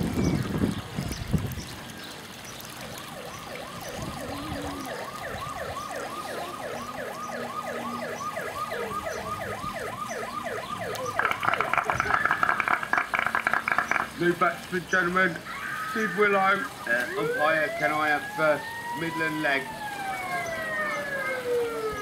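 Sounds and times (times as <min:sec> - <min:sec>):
siren yelping: 0:02.9 - 0:14.2, 0:15.2 - 0:22.0.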